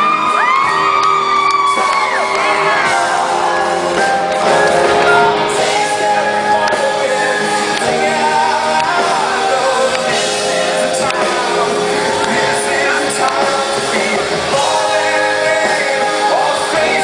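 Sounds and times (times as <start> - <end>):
lead vocalist singing: 0.0 - 17.0
live rock band playing: 0.0 - 17.0.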